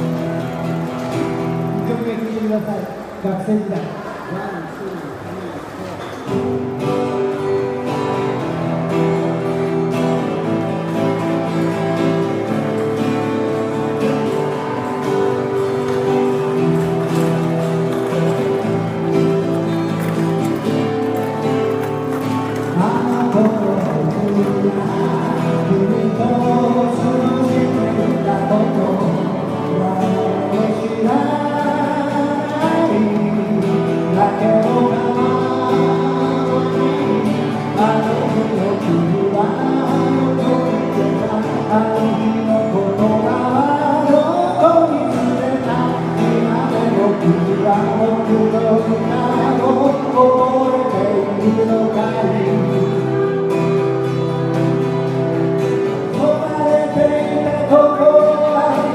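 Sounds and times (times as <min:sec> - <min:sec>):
guitar accompaniment: 0:00.0 - 0:58.9
person singing: 0:10.2 - 0:58.9.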